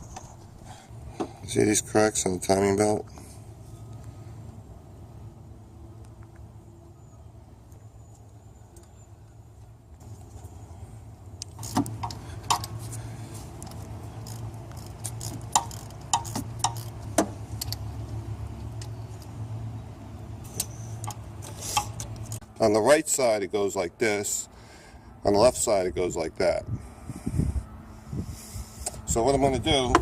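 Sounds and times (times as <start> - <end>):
steady low hum: 0.0 - 22.8, 23.4 - 30.0.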